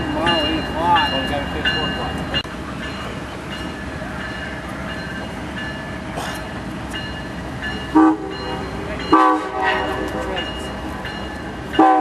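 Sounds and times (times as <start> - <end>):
diesel locomotive running: 0.0 - 12.0.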